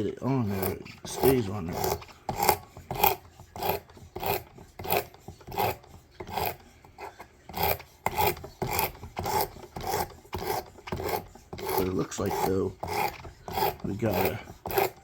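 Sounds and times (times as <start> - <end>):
sandpaper rasping on knife blade: 0.0 - 15.0.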